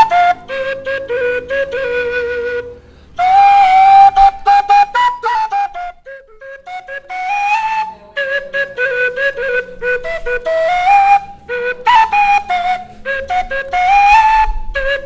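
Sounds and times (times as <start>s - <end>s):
duct flute melody: 0.0s - 15.0s.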